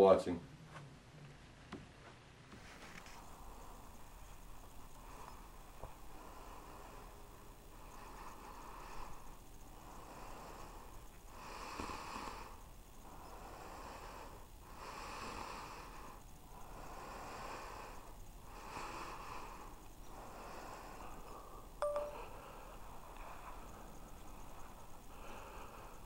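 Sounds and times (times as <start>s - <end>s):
person breathing deeply: 3.1s - 26.0s.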